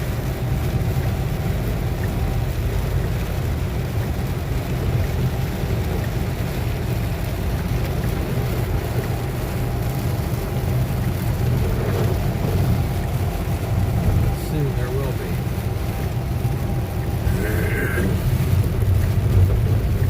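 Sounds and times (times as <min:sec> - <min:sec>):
car road rumble: 0:00.0 - 0:20.0
tyres hissing on wet road: 0:00.0 - 0:20.0.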